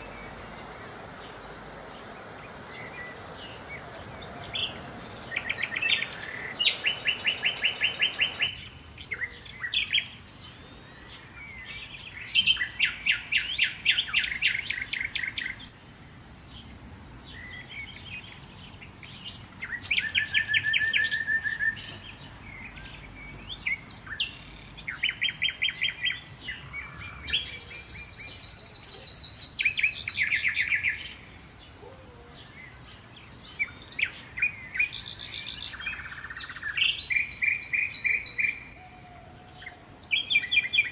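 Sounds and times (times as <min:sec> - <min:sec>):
birds trilling and chirping: 0:00.0 - 0:15.8, 0:16.5 - 0:40.9.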